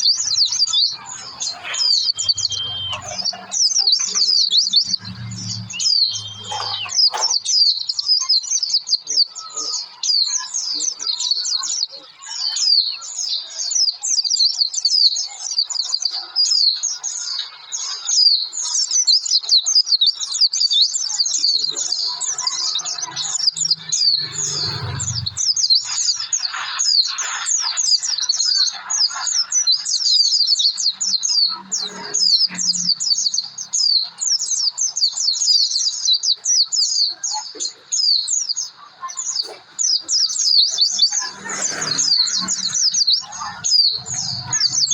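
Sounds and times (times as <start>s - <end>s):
bird chirping song: 0.0s - 44.9s.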